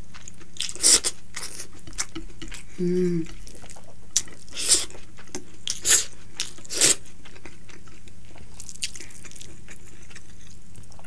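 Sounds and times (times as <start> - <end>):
wet chewing smacks and crunches: 0.0 - 2.7, 3.3 - 11.0.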